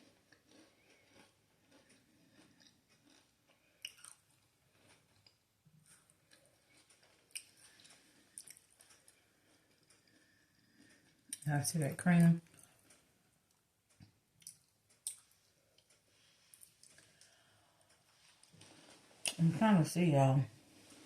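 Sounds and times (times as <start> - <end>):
person chewing cookie: 0.0 - 11.4, 12.4 - 19.4.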